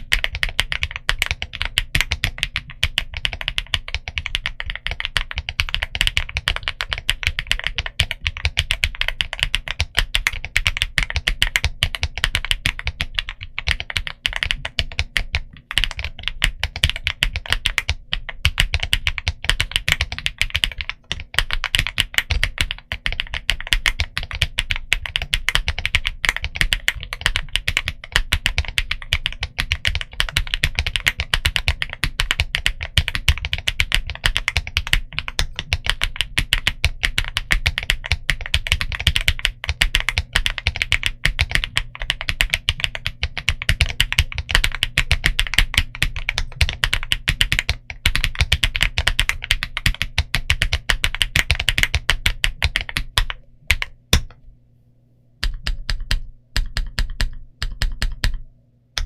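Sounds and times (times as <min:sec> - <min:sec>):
fast typing on mechanical keyboard: 0:00.0 - 0:54.4, 0:55.4 - 0:58.4.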